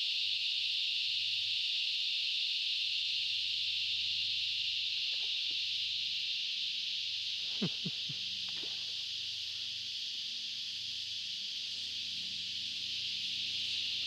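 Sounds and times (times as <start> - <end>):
cicada chorus droning: 0.0 - 14.0.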